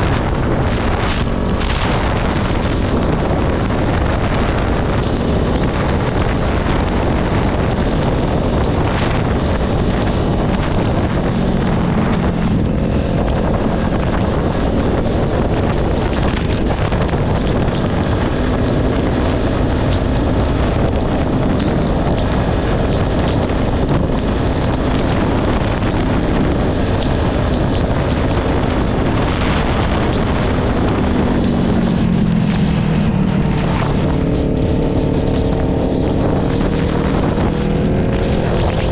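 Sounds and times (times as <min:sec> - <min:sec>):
motorcycle engine: 0:00.0 - 0:38.9
wind noise on microphone: 0:00.0 - 0:38.9.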